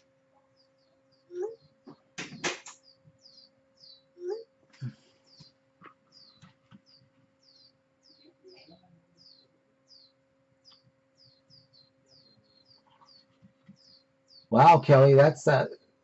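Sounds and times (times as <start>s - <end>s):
faint bird chirping: 0.0s - 16.0s
low steady hum: 0.0s - 16.0s.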